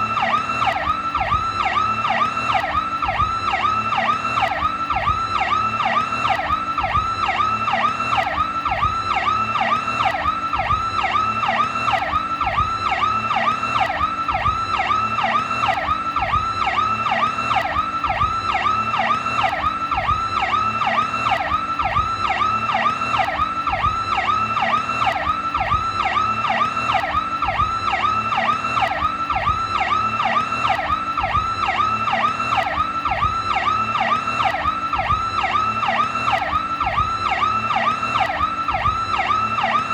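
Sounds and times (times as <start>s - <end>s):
police siren fast sweeps: 0.0s - 39.9s.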